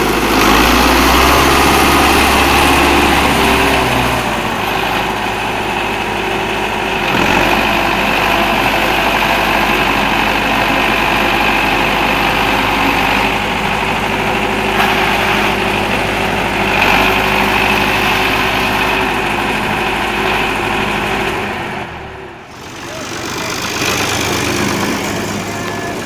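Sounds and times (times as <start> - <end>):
tractor diesel engine running: 0.0 - 26.0
tyres churning in mud: 0.0 - 26.0.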